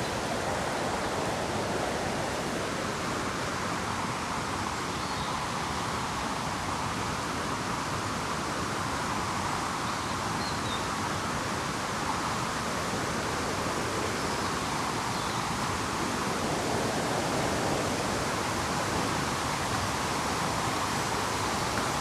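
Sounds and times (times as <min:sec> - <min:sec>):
river rapids roaring: 0:00.0 - 0:22.0.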